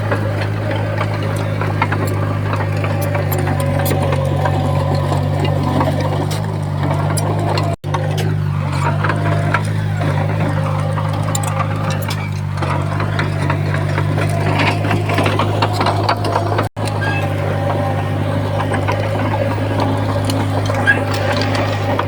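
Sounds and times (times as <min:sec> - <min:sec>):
heavy diesel engine running: 0:00.0 - 0:22.0
rattling and clanking: 0:00.0 - 0:22.0.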